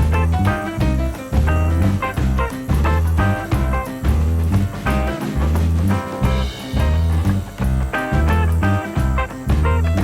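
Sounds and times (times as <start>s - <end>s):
upbeat swing tune with brass: 0.0s - 10.0s.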